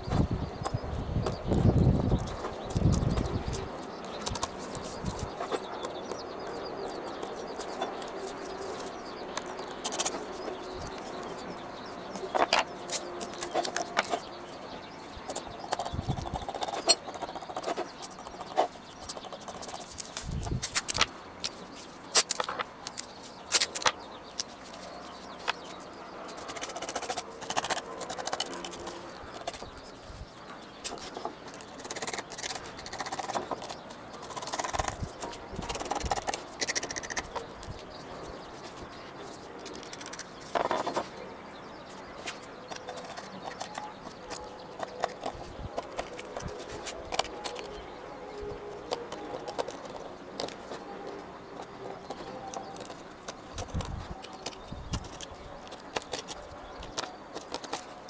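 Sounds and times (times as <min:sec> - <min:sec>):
birds calling: 0:00.0 - 0:58.0
tape clicks and crinkles: 0:00.0 - 0:58.0.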